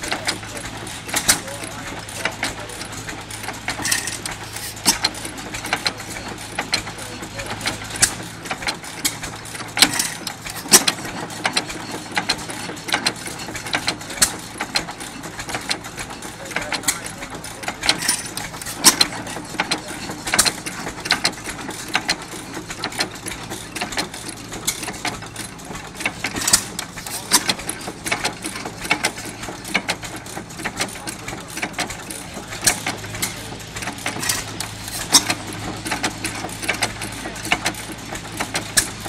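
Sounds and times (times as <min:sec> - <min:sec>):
engine pops: 0:00.0 - 0:39.0
gas engine running: 0:00.0 - 0:39.0
sharp engine clicks: 0:00.0 - 0:39.0.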